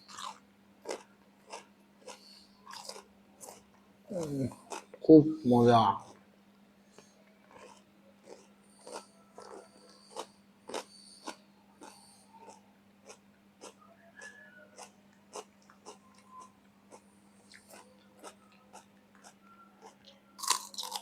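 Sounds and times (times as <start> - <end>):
crunching of vegetables being chewed: 0.0 - 5.0, 6.0 - 6.3, 6.9 - 21.0.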